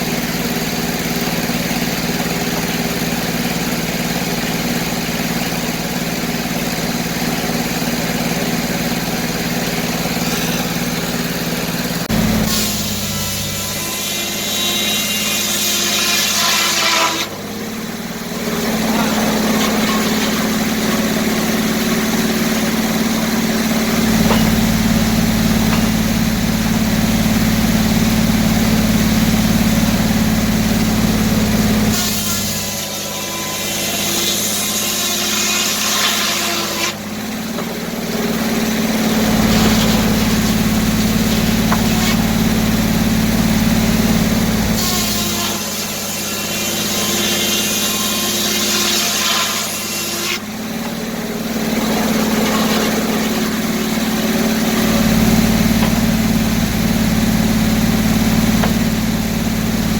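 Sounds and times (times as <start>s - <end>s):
saw blade rasping through log: 0.0s - 59.9s
sawmill engine running: 0.0s - 59.9s.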